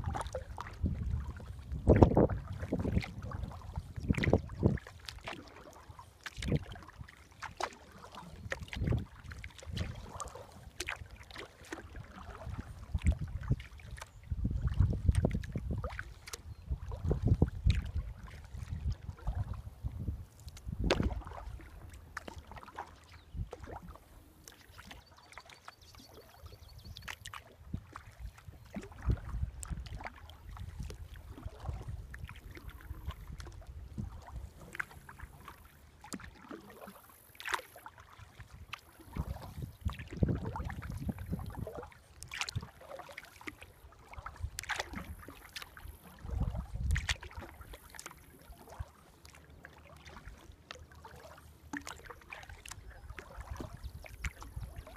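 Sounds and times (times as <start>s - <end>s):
kayak paddle splashing in water: 0.0s - 54.9s.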